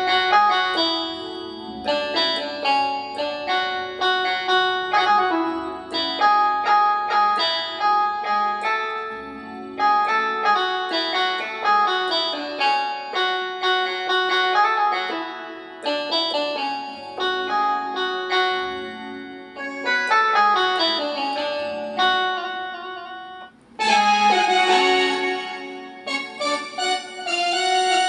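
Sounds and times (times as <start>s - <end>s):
keyboard playing plucked melody: 0.0s - 28.0s.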